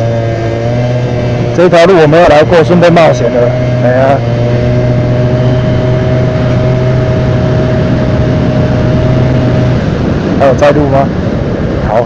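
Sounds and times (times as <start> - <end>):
scooter engine running: 0.0 - 12.0
wind and road noise: 0.0 - 12.0.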